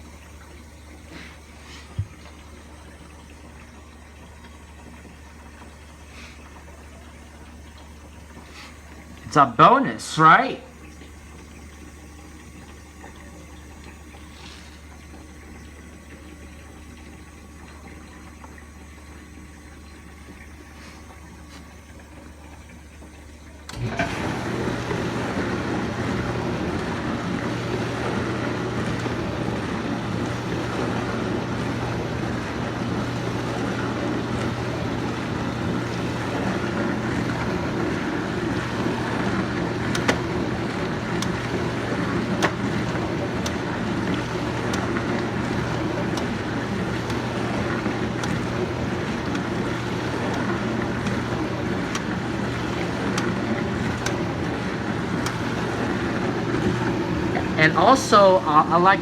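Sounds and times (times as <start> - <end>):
dishwasher motor hum: 0.0 - 59.0.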